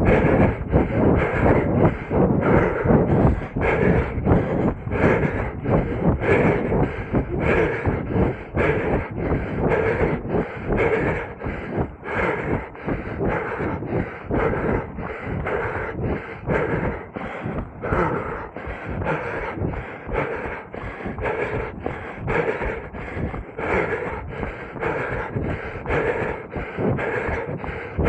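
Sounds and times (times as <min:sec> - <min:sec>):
runner breathing hard: 0:00.0 - 0:28.0.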